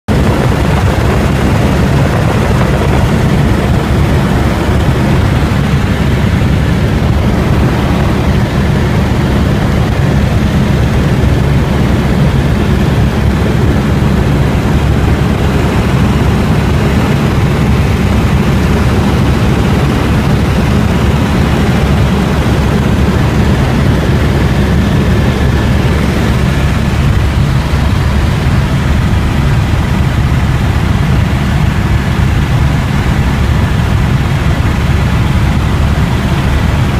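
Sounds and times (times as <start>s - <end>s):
helicopter running: 0.1s - 36.9s.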